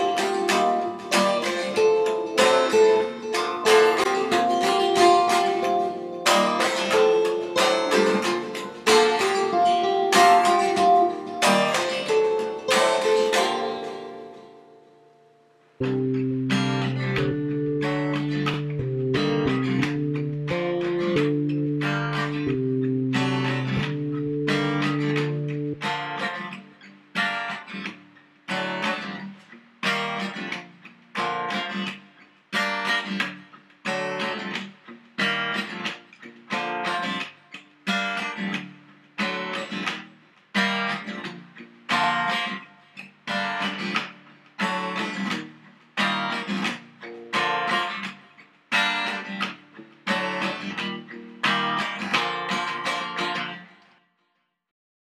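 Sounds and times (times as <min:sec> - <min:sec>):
acoustic guitar strumming chords: 0:00.0 - 0:53.8.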